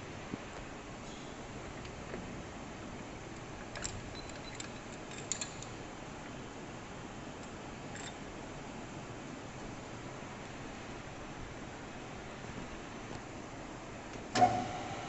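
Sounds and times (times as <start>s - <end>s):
steady workshop hum: 0.0s - 15.0s.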